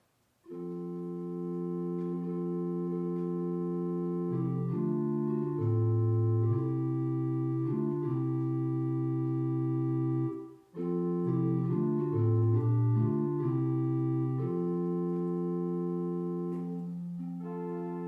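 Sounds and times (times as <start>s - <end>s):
organ playing slow chords: 0.5s - 18.0s.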